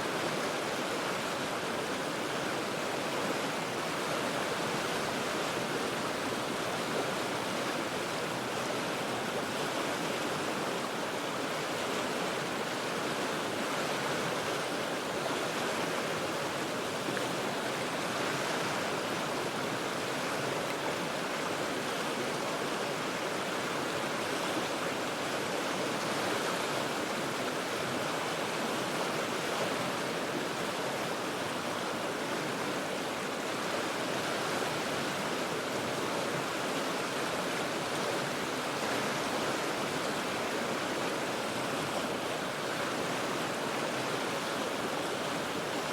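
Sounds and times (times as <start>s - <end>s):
river flowing over rocks: 0.0s - 45.9s.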